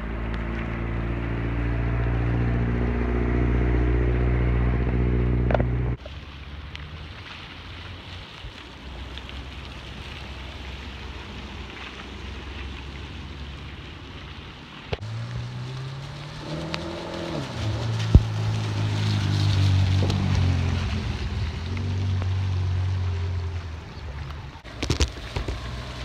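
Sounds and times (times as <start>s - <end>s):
sports car passing: 0.0s - 8.4s, 9.3s - 26.0s
car engine rumbling: 0.0s - 26.0s
rain hissing: 3.0s - 26.0s.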